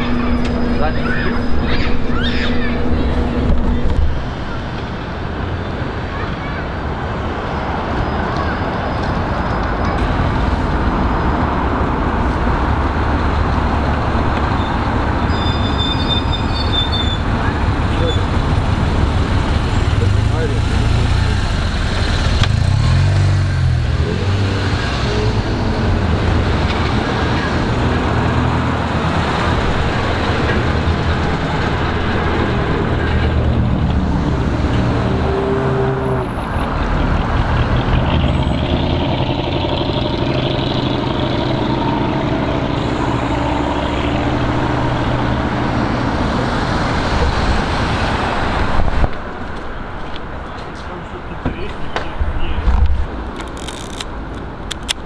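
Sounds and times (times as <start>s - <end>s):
bus engine droning: 0.0s - 55.0s
street traffic: 0.0s - 55.0s.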